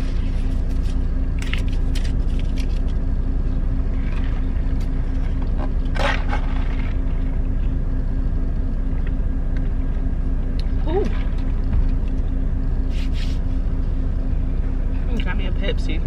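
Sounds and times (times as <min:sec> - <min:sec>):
idling truck engine drone: 0:00.0 - 0:16.0.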